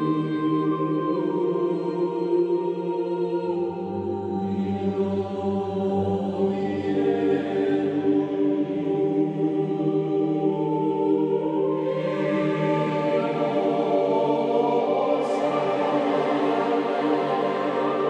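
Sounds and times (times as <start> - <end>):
slow choir-like music: 0.0 - 18.0.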